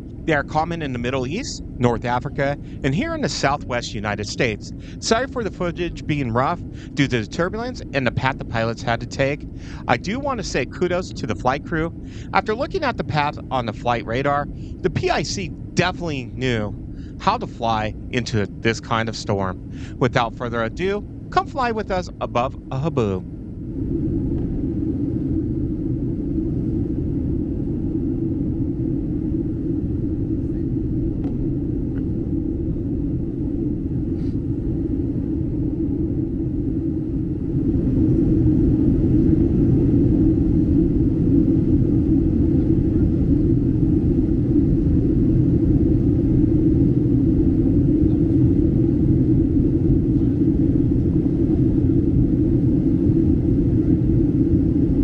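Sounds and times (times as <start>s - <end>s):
airplane cabin drone in flight: 0.0s - 55.0s.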